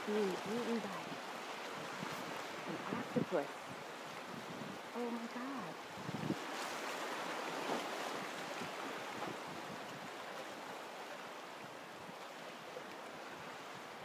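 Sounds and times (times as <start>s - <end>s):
small waves washing over rocks: 0.0s - 14.0s.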